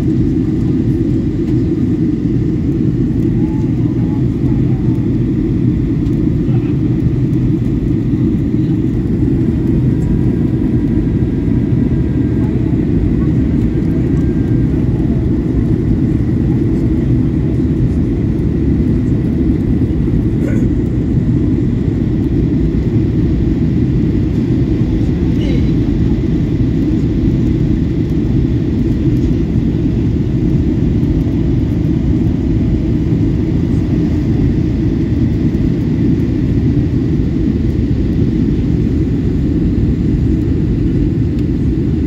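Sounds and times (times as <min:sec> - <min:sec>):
airliner cabin engine rush: 0:00.0 - 0:42.0.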